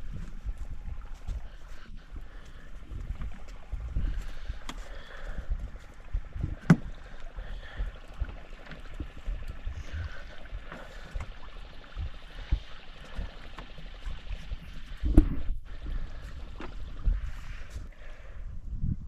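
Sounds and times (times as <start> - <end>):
water and air washing: 0.0 - 18.4.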